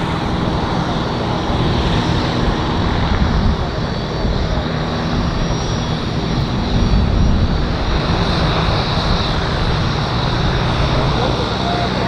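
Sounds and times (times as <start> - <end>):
aircraft engines rumbling: 0.0 - 12.0
high engine whine: 0.0 - 12.0.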